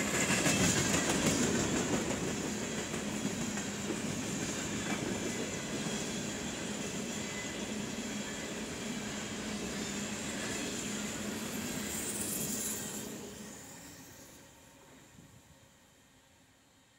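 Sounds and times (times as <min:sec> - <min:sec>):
freight train rolling past: 0:00.0 - 0:16.9.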